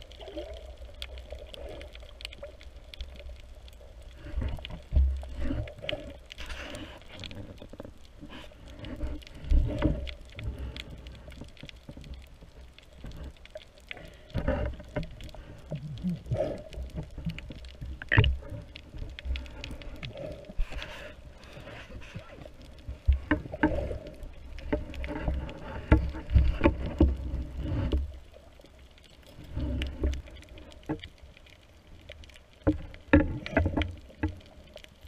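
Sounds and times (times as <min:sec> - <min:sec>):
underwater water wash: 0:00.0 - 0:35.0.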